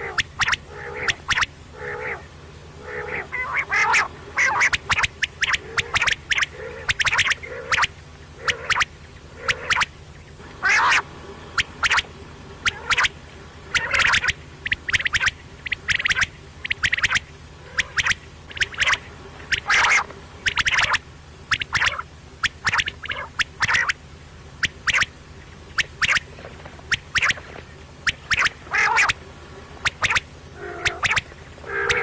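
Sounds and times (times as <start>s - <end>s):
faint low hum: 0.0s - 32.0s
quail calling: 0.0s - 32.0s.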